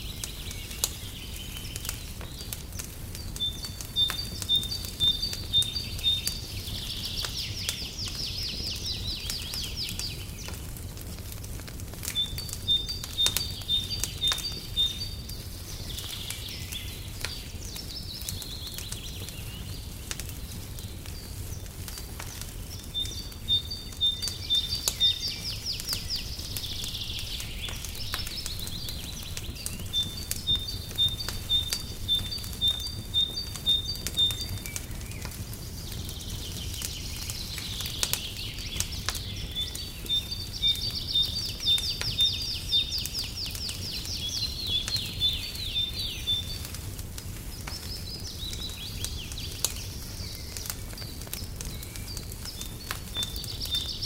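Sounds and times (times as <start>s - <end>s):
songbird chirping and trilling: 0.0s - 11.3s, 11.9s - 54.0s
fireplace crackling and popping: 0.0s - 54.0s.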